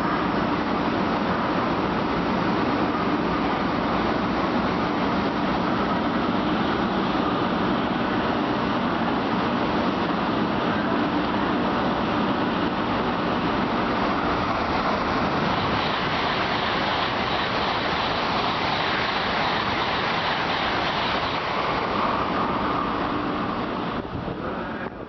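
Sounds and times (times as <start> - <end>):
train rushing past: 0.0 - 25.0.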